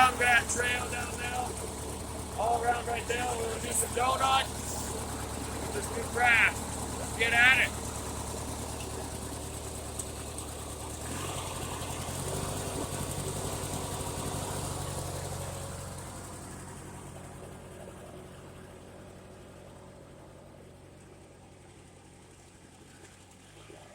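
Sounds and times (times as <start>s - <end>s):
riding lawn mower engine: 0.0s - 23.9s.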